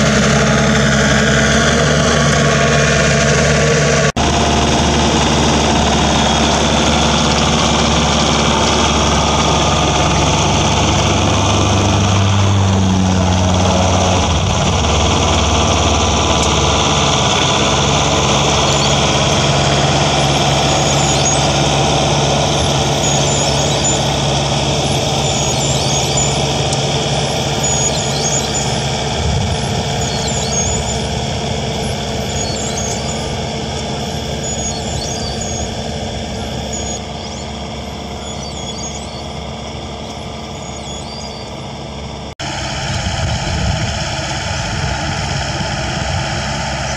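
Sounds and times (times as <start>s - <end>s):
tractor engine under load: 0.0s - 46.9s.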